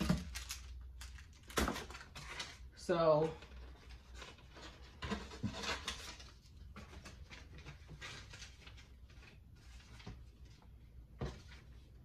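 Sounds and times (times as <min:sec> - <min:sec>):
packaging and cardboard rustling: 0:00.0 - 0:12.0.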